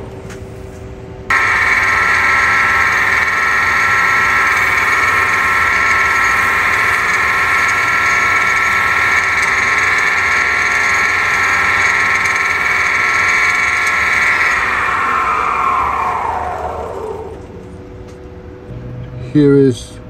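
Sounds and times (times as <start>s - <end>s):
wood lathe motor whine: 1.3s - 17.6s.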